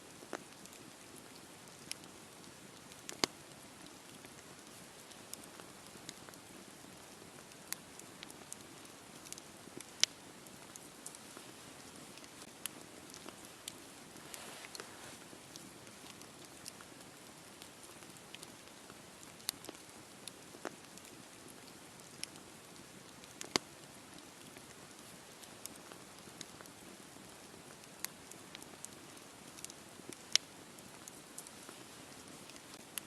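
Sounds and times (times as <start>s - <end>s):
faint fire hiss: 0.0s - 33.0s
campfire crackling and popping: 0.1s - 33.0s.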